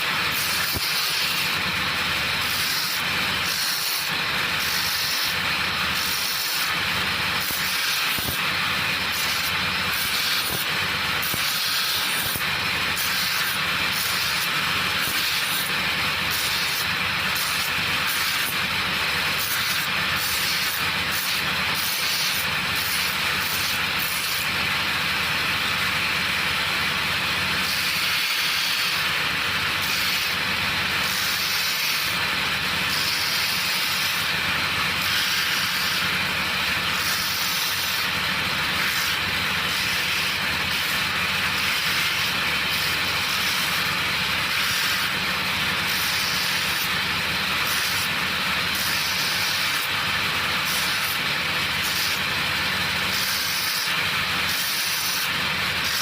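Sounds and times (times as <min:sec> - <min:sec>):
electric motor machine humming: 0:00.0 - 0:56.0.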